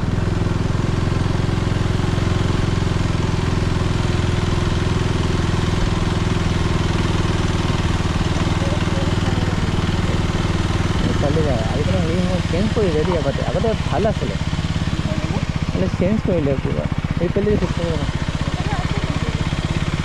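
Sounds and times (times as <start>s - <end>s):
motorcycle engine running steadily: 0.0s - 20.0s.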